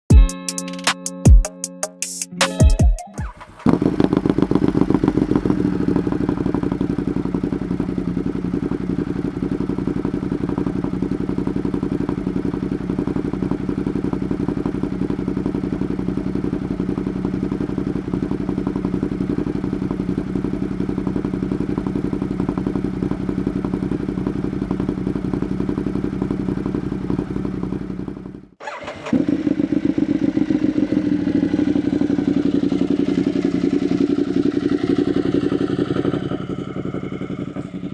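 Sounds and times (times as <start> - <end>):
motorcycle engine idling: 3.2 - 37.9.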